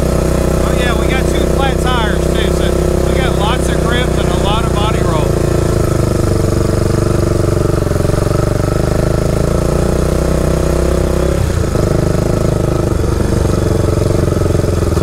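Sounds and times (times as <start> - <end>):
three-wheeler engine under load: 0.0 - 15.0.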